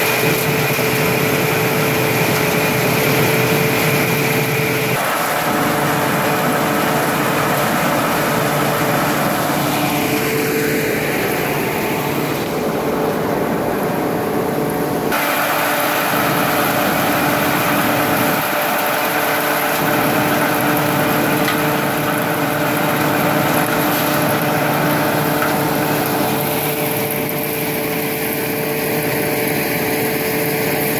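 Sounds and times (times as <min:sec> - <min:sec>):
engine drone: 0:00.0 - 0:30.9
threshing machine hum: 0:00.0 - 0:30.9.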